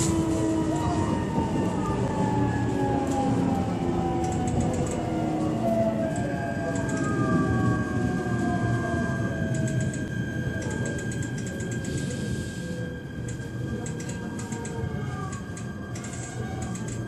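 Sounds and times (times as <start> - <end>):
rail running noise: 0.0 - 17.0
steady high tone: 0.0 - 17.0.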